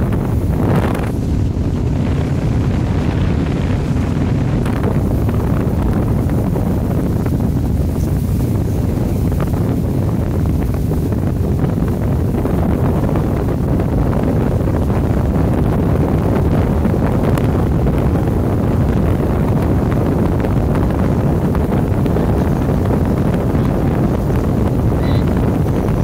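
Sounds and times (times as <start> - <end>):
boat engine running: 0.0 - 26.0
water noise: 0.0 - 26.0
wind on microphone: 0.0 - 26.0.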